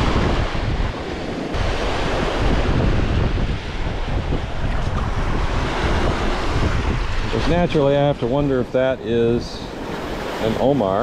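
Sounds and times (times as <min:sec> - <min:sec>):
waves washing onto stony beach: 0:00.0 - 0:11.0
wind buffeting microphone: 0:00.0 - 0:11.0.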